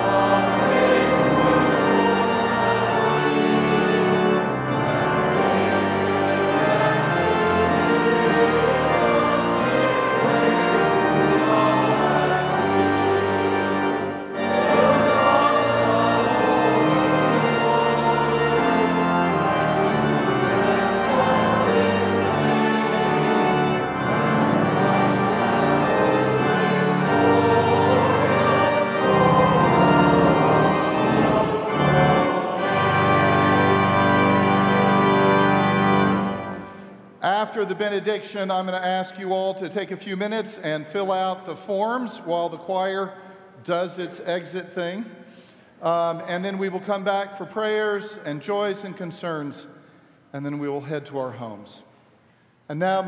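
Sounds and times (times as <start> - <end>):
church choir singing: 0.0 - 49.7
pipe organ: 0.0 - 53.0.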